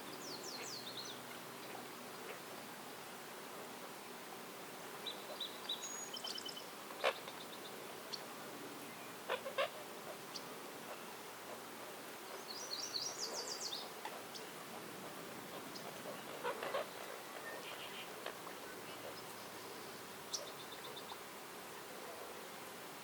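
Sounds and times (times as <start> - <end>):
songbirds chirping and trilling: 0.0 - 2.8, 3.6 - 22.8
steady outdoor hiss: 0.0 - 23.0.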